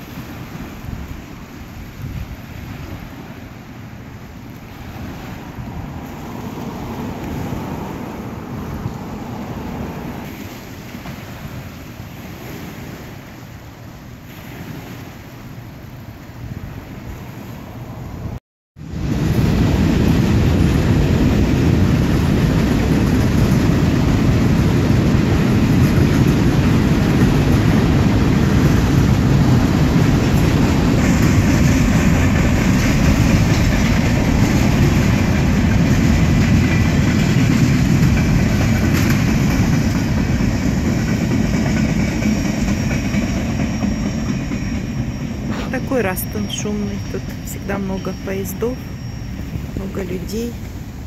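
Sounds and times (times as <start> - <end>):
freight train wheels rumbling: 0.0 - 13.3, 16.5 - 51.0.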